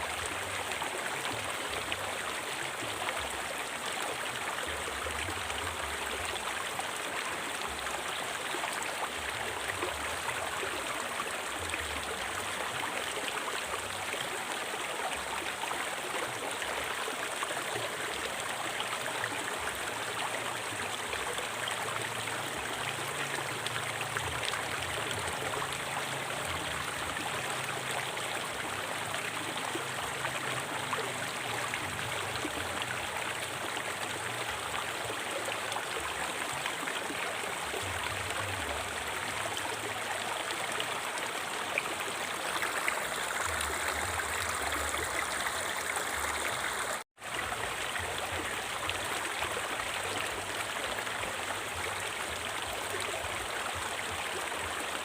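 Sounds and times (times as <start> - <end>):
river water over stones: 0.0 - 55.0.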